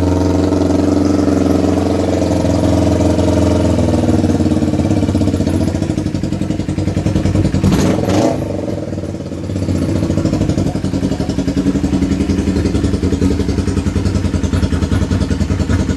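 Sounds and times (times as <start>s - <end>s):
motorcycle engine running loud: 0.0s - 15.9s.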